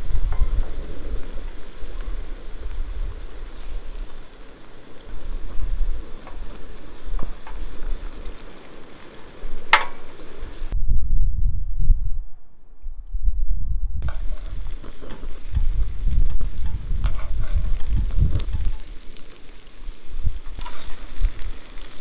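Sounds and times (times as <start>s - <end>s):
meat and onions sizzling in oil: 0.0s - 10.8s, 14.0s - 22.0s
wind rumble on microphone: 0.0s - 22.0s.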